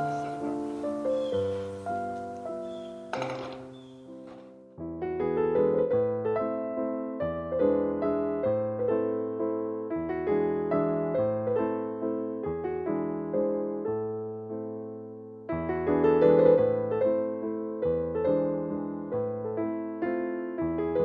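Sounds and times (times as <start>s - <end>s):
gentle piano pattern: 0.0s - 21.0s.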